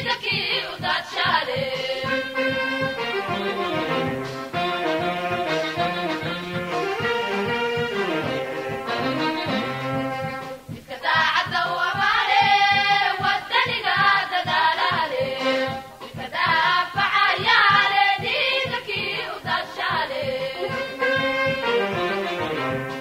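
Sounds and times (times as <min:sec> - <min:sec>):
music with steady beat: 0:00.0 - 0:23.0
singing voices: 0:00.0 - 0:23.0.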